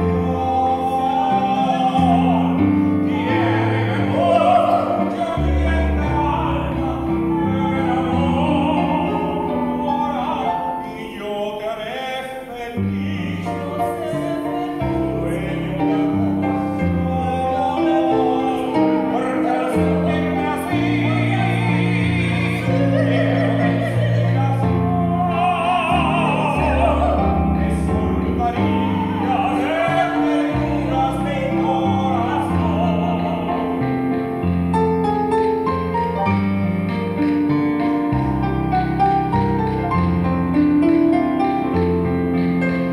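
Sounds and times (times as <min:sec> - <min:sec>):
digital piano: 0:00.0 - 0:42.9
soprano and tenor singing operatically: 0:00.0 - 0:42.9.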